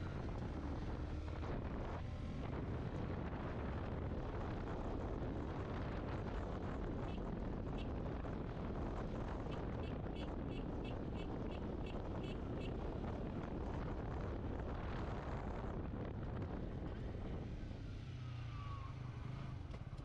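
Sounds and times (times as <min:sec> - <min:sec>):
wind rush on microphone: 0:00.0 - 0:17.9.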